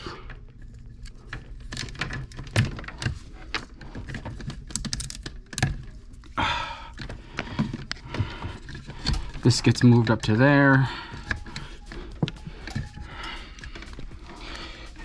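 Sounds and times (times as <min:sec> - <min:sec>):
cable clicks and knocks: 0:00.2 - 0:15.0.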